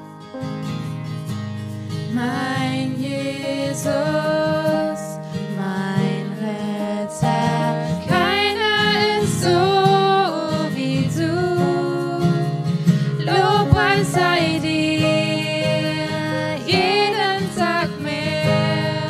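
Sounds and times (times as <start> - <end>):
instrumental backing: 0.0 - 19.0.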